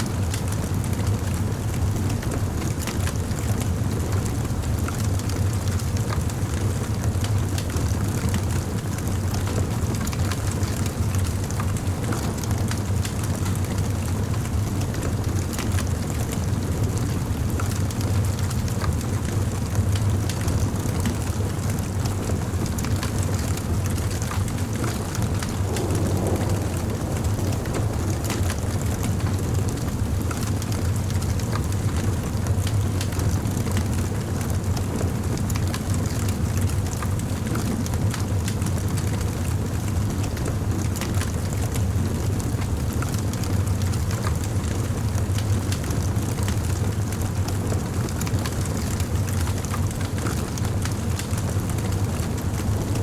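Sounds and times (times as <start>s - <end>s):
wood fire crackling: 2.6s - 53.0s.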